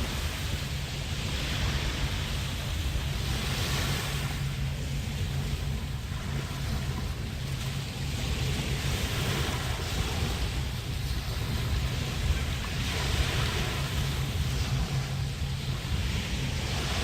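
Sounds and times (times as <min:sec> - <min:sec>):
waves washing onto beach: 0:00.0 - 0:17.0
wind rumble on microphone: 0:00.0 - 0:17.0.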